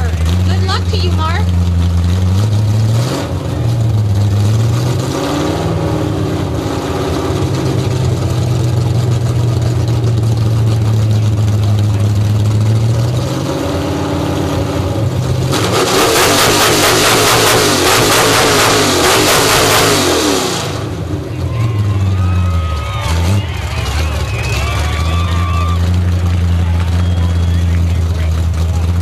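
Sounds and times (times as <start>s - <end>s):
v eight engine idling and revving: 0.0s - 29.0s.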